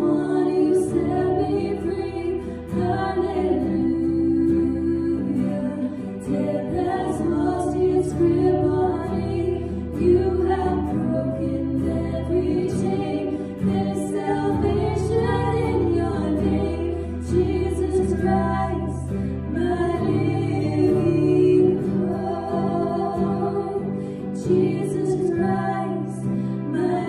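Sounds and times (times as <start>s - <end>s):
acoustic guitar: 0.0s - 27.0s
keyboard accompaniment: 0.0s - 27.0s
woman singing: 0.0s - 27.0s.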